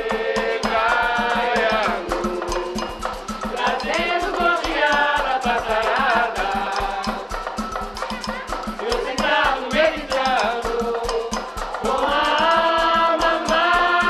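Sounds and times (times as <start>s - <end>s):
fast percussion beat: 0.0s - 14.0s
voices singing together: 0.0s - 14.0s.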